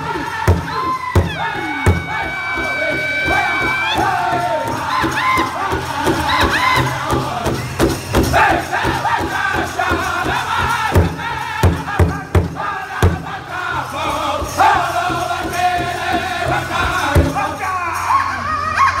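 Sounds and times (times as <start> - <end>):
large hide drum beating: 0.0 - 17.7
group singing in high voices: 0.0 - 19.0.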